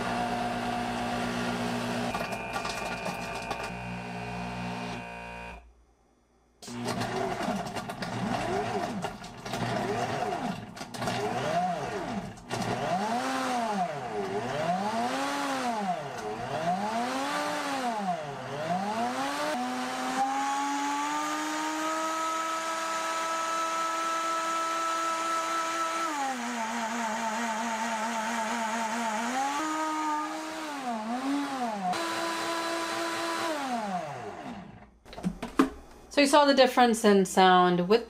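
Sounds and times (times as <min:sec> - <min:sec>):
blender motor blending ice: 0:00.0 - 0:05.6, 0:06.6 - 0:34.8.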